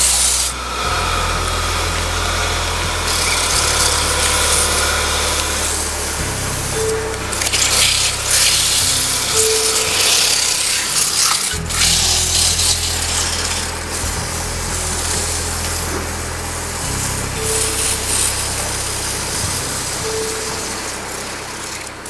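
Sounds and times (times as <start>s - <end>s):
cloth sanding spinning wooden bowl: 0.0s - 22.0s
low steady hum: 0.0s - 22.0s.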